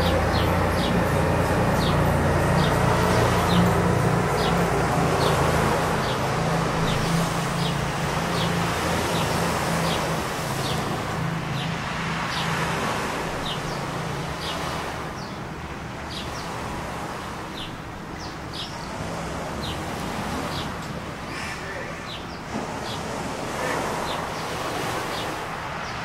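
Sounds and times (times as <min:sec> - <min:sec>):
boat engines droning: 0:00.0 - 0:26.0
rushing water: 0:00.0 - 0:26.0.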